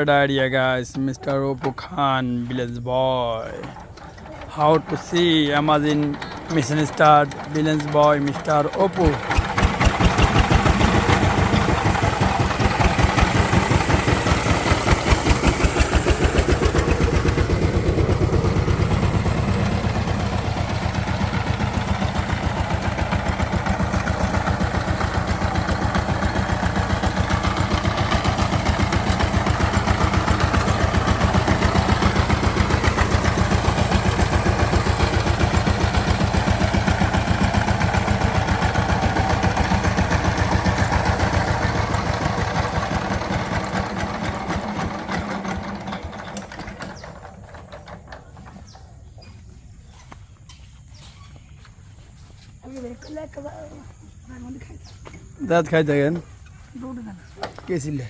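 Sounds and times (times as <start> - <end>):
diesel engine idling chugging: 0.0 - 58.0.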